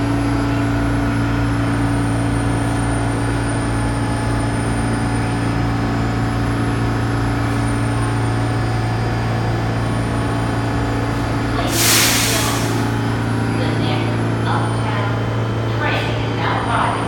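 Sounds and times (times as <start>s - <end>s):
subway train humming: 0.0s - 17.0s.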